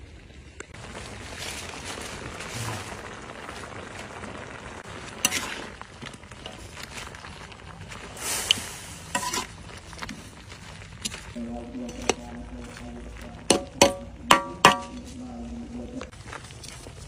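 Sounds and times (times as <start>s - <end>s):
broth simmering with hiss: 0.0s - 17.0s.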